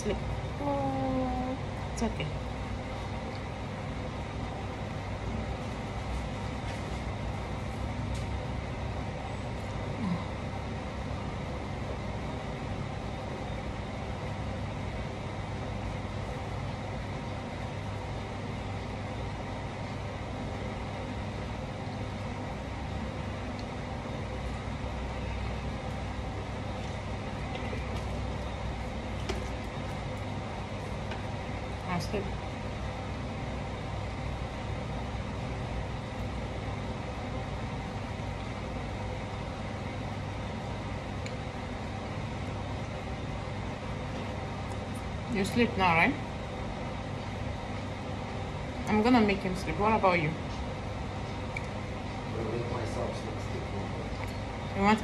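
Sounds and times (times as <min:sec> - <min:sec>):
mechanical hum with hiss: 0:00.0 - 0:55.0.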